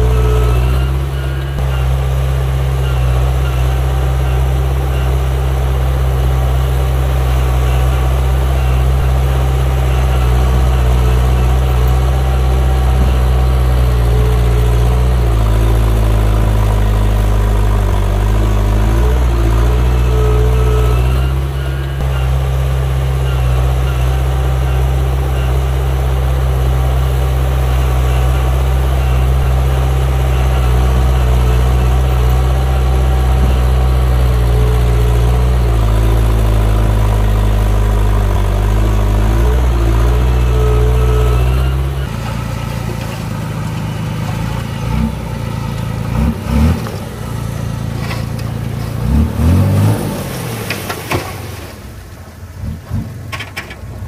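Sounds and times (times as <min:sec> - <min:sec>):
engine revving unevenly: 0:00.0 - 0:53.9
diesel engine of heavy machinery: 0:00.0 - 0:54.0.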